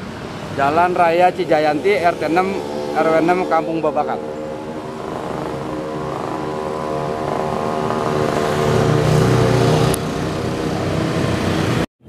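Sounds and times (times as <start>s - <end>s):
motorcycle engines passing: 0.0s - 11.9s.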